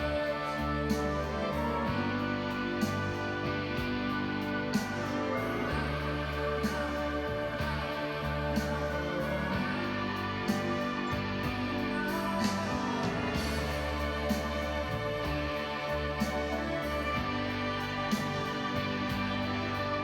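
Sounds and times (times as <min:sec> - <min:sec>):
slow instrumental music: 0:00.0 - 0:20.0.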